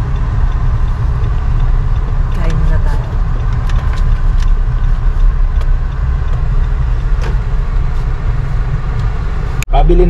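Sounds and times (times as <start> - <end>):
car cabin rumble: 0.0 - 10.0.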